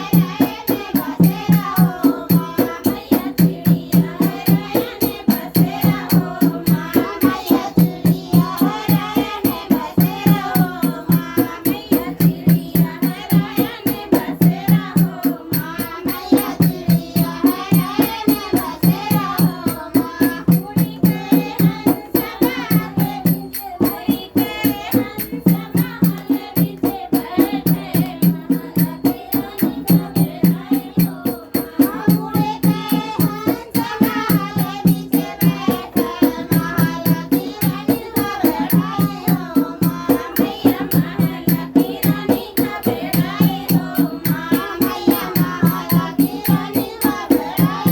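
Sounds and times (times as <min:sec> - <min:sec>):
dholak drum beat: 0:00.0 - 0:47.9
voices singing: 0:00.0 - 0:47.9.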